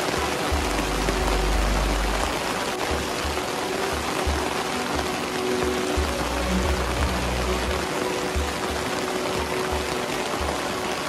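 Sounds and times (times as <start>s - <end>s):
rain pattering on a tarp: 0.0s - 11.0s.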